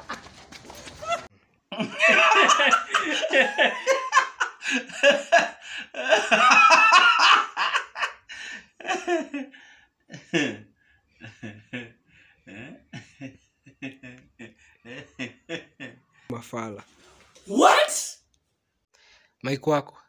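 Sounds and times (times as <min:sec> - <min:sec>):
men laughing: 0:00.0 - 0:16.3.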